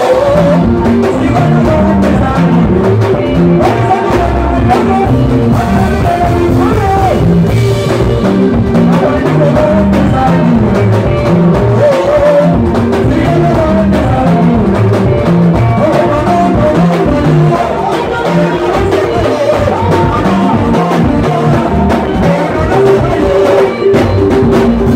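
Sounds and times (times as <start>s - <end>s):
bass: 0.0s - 24.9s
drum kit: 0.0s - 24.9s
electric guitar lines: 0.0s - 24.9s
person singing: 0.0s - 24.9s.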